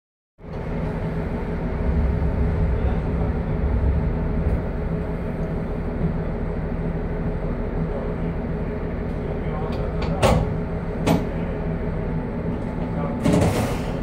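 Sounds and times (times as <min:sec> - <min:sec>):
diesel engine idling: 0:00.4 - 0:14.0.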